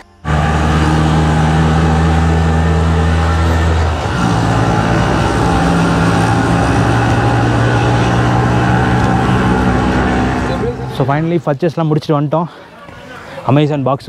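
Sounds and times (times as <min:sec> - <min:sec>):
auto-rickshaw engine running: 0:00.0 - 0:11.5.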